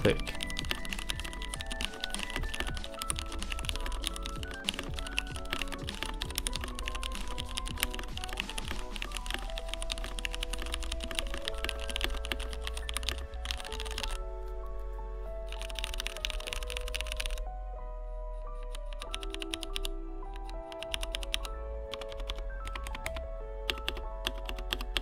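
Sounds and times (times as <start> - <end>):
background music: 0.0 - 25.0
typing on mechanical keyboard: 0.1 - 14.2, 15.5 - 17.4, 18.6 - 25.0.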